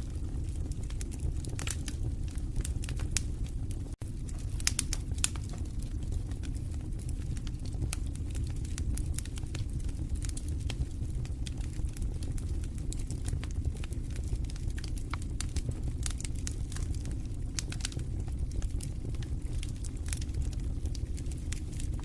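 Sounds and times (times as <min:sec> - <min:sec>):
fire crackles and pops: 0:00.0 - 0:22.0
fire rumbling in fireplace: 0:00.0 - 0:22.0.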